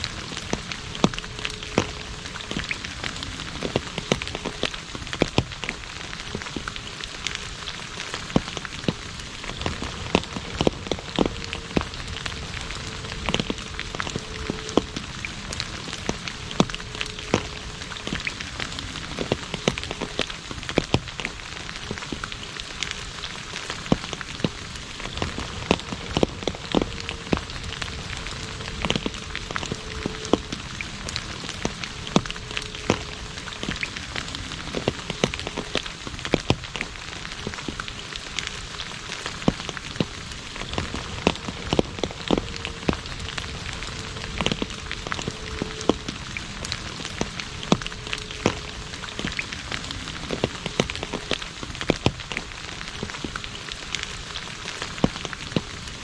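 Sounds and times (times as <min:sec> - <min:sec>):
rain hissing on asphalt: 0:00.0 - 0:56.0
raindrop splashes: 0:00.0 - 0:56.0.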